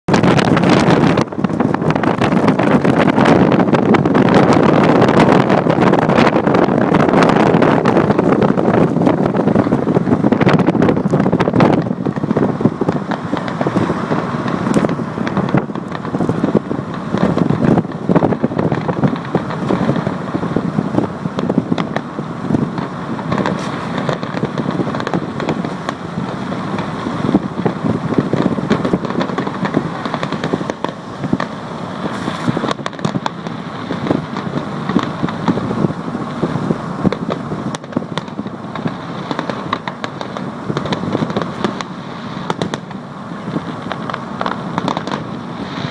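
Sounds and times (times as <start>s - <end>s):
fireworks bangs and crackling: 0.1s - 45.9s
loud firework reports: 0.1s - 45.9s.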